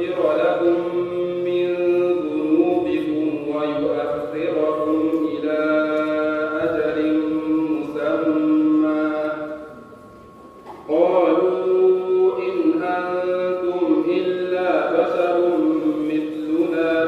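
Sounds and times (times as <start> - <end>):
man reciting melodic chant: 0.0 - 9.9, 10.7 - 17.0.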